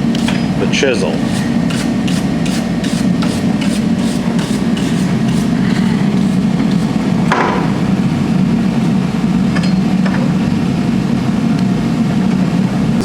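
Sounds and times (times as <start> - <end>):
gas forge burner roaring: 0.0 - 13.0.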